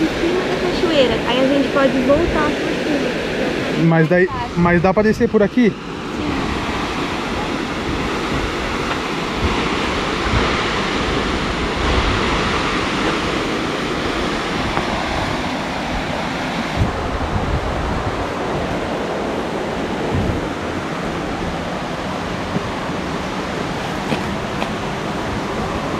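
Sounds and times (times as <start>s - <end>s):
waterfall rushing: 0.0s - 25.9s
wind buffeting microphone: 0.0s - 25.9s.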